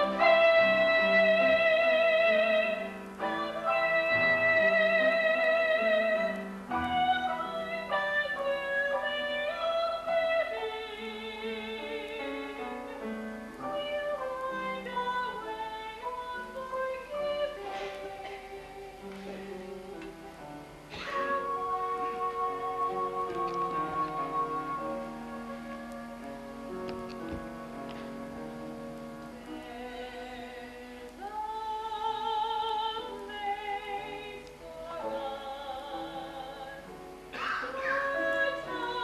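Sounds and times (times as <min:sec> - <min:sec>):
slow orchestral music: 0:00.0 - 0:39.0.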